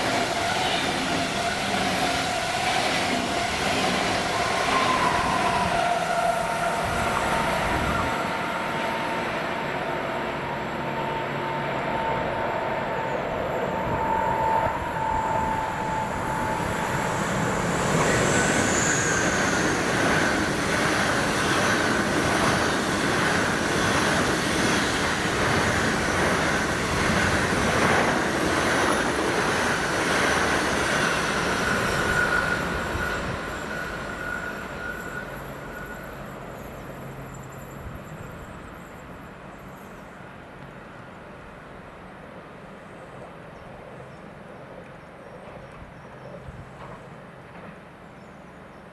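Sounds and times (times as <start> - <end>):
train wheels squealing on rails: 0.0 - 41.8
train rumble: 0.0 - 48.9.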